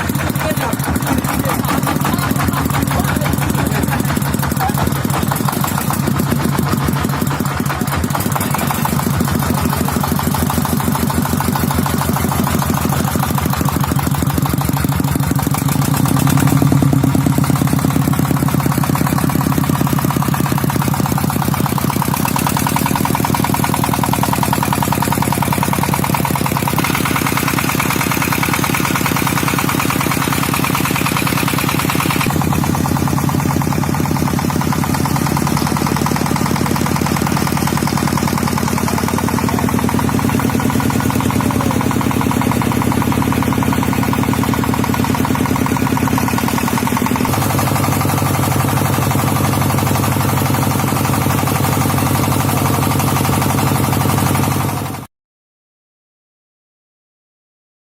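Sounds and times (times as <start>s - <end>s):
diesel engine knocking: 0.0s - 55.1s.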